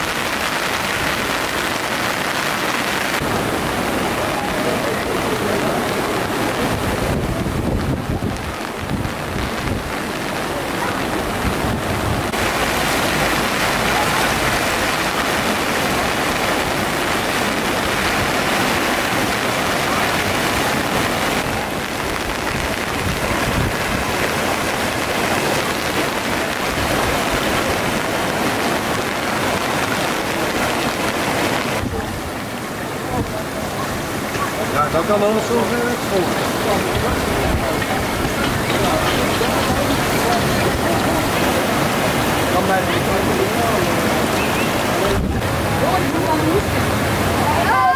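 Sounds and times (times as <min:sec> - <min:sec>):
floodwater rushing: 0:00.0 - 0:47.9.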